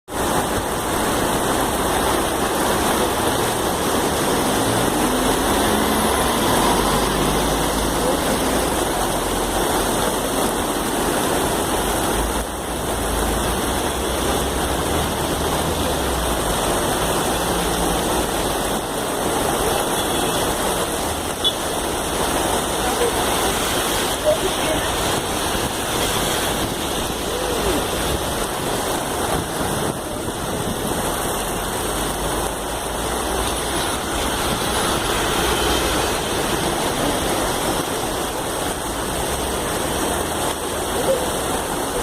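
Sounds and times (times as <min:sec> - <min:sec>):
heavy rain pouring: 0:00.0 - 0:42.0
traffic engines rumbling: 0:00.1 - 0:42.0.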